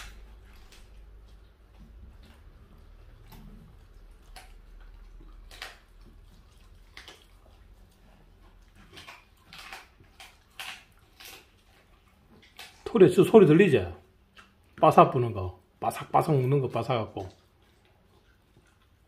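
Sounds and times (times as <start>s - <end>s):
dog chewing and tearing meat: 0.0s - 19.0s.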